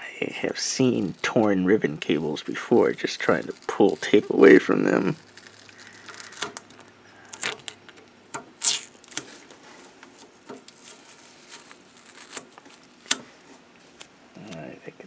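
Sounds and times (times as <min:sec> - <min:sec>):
tape peeling swishes: 0:00.8 - 0:08.0, 0:08.6 - 0:14.1
plastic parts clicking and rustling: 0:00.8 - 0:13.4.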